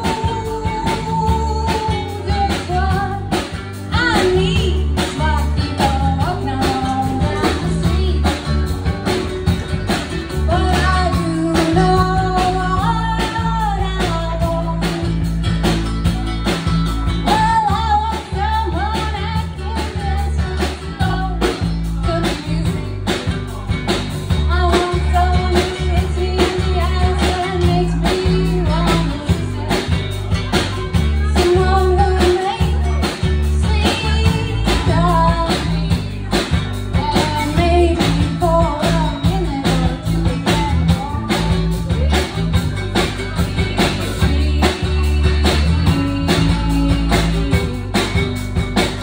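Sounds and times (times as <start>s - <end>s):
live rock country band: 0.0s - 49.0s.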